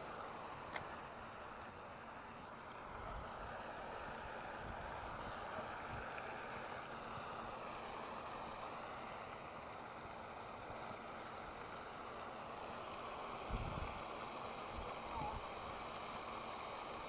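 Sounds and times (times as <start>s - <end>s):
water noise: 0.0s - 17.0s
wind: 0.0s - 17.0s.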